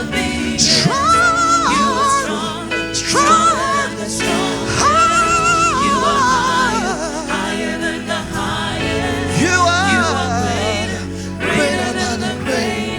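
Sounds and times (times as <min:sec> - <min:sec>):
held accompaniment chords: 0:00.0 - 0:12.9
voices singing long sliding notes: 0:00.0 - 0:12.9.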